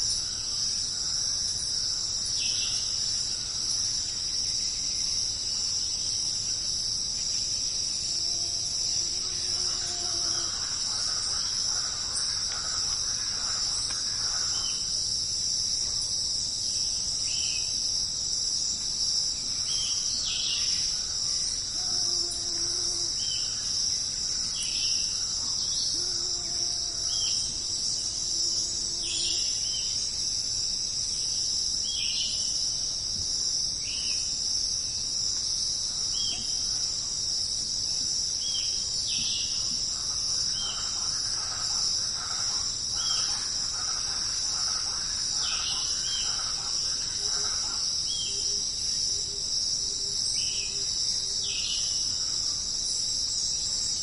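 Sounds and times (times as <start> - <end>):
crickets and insects chirring: 0.0 - 54.0.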